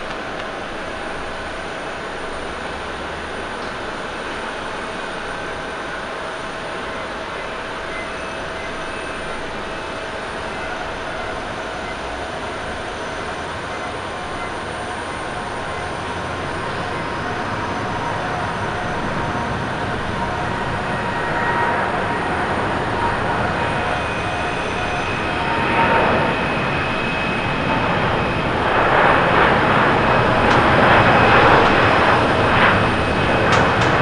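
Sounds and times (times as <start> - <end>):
jet engines at high thrust: 0.0 - 34.0.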